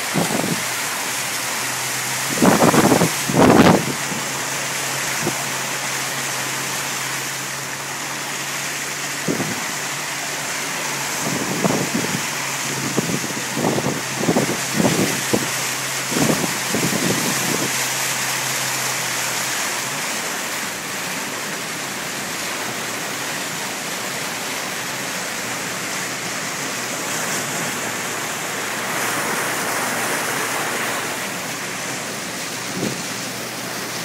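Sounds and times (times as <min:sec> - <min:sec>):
floodwater rushing and splashing: 0:00.0 - 0:34.0.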